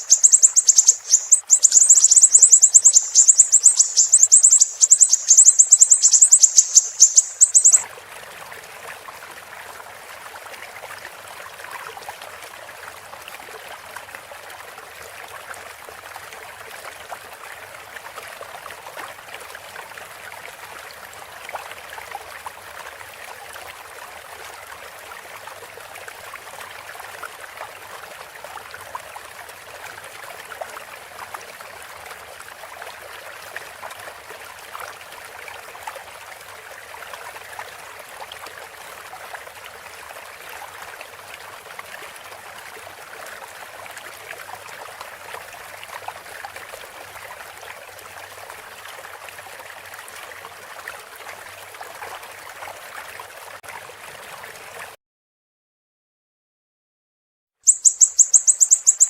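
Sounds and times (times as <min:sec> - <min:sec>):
stream trickling and gurgling: 0:00.0 - 0:55.0, 0:57.6 - 0:59.0.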